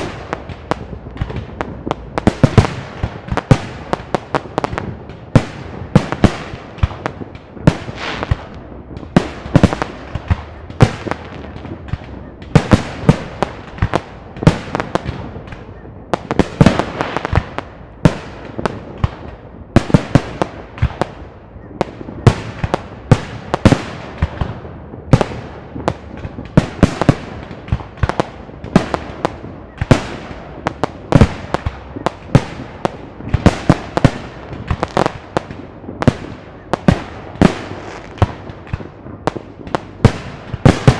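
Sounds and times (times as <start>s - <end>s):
fireworks bursts with echo: 0.0s - 40.9s.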